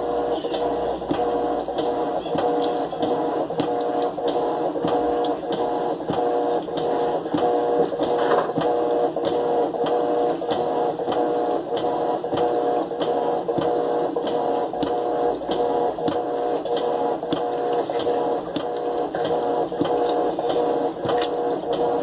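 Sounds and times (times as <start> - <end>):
washing machine motor hum: 0.0 - 22.0
washing machine clicking: 0.2 - 22.0.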